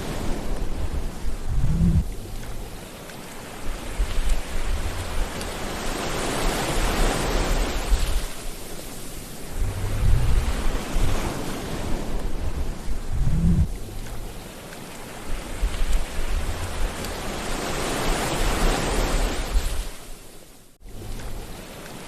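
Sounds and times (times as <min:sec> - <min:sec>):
wind rumbling on microphone: 0:00.0 - 0:20.2
sea waves washing on shore: 0:00.0 - 0:22.0.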